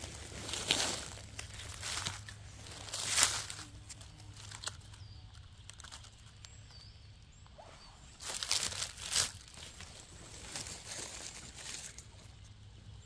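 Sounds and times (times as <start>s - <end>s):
dry leaves rustling and crunching: 0.0s - 6.9s, 8.2s - 12.6s.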